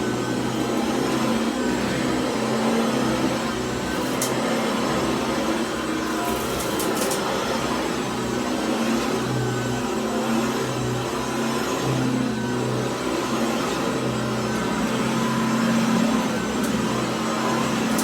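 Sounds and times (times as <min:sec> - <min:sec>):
stick vacuum running: 0:00.0 - 0:18.0.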